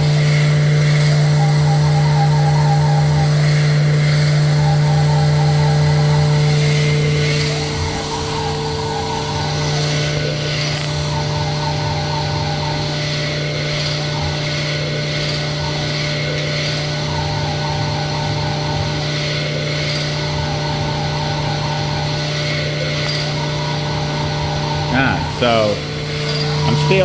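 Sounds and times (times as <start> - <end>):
motor hum: 0.0 - 27.0.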